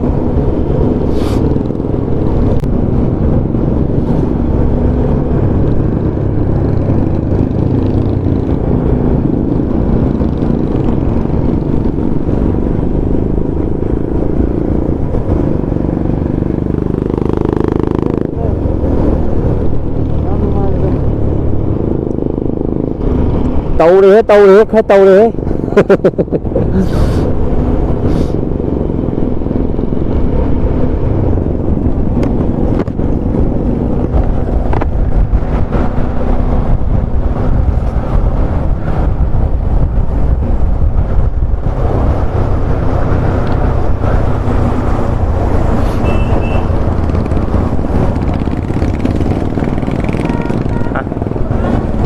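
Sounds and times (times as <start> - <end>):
motorcycle engine drone: 0.0 - 52.0
road noise: 0.0 - 52.0.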